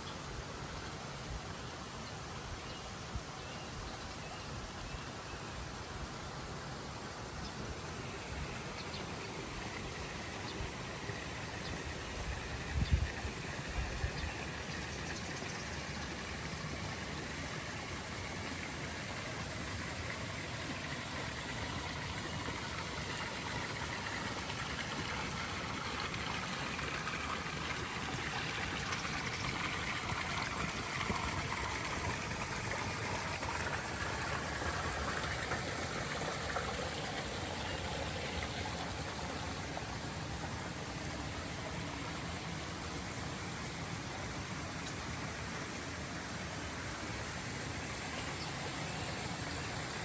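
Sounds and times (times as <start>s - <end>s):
running water: 0.0s - 50.0s.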